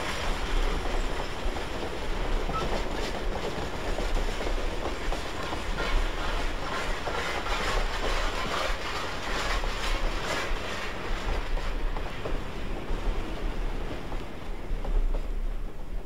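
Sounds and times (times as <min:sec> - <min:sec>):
rush of steam: 0:00.0 - 0:16.0
steam locomotive exhaust beats: 0:00.0 - 0:16.0.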